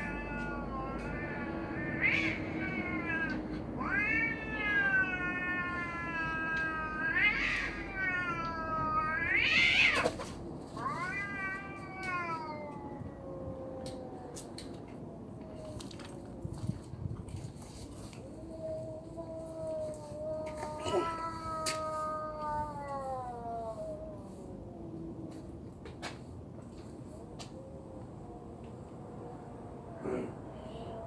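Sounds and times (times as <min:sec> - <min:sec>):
cats yowling: 0:00.0 - 0:17.0, 0:18.0 - 0:25.6, 0:26.9 - 0:31.0.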